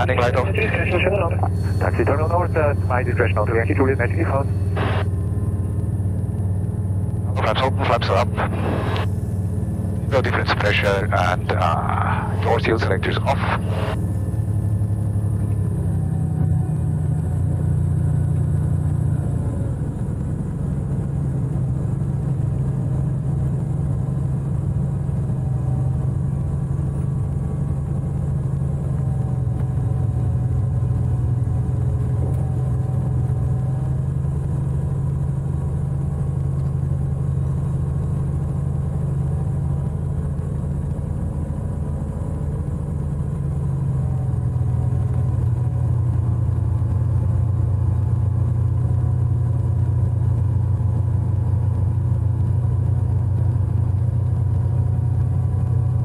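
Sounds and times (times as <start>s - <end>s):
aircraft piston engine droning: 0.0s - 56.0s.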